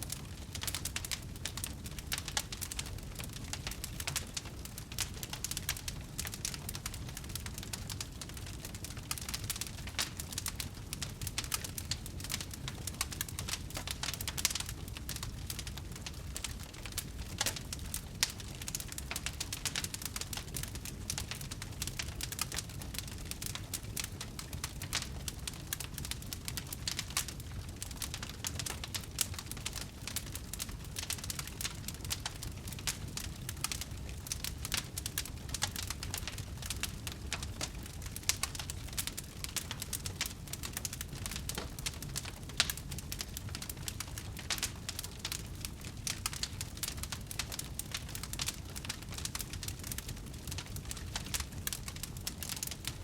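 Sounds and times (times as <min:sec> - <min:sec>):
low rumble of burning: 0:00.0 - 0:53.0
wood fire crackling and popping: 0:00.0 - 0:53.0.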